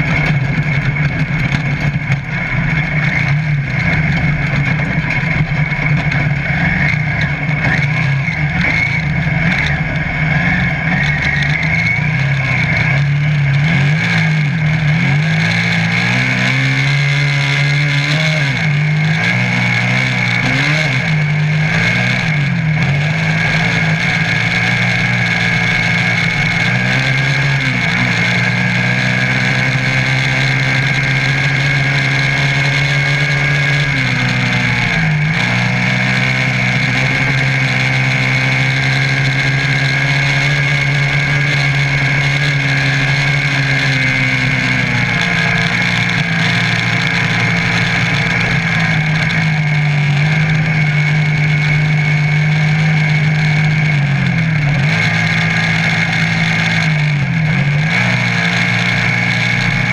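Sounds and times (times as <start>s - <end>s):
buggy engine running hard: 0.0s - 59.9s
road noise: 0.0s - 59.9s.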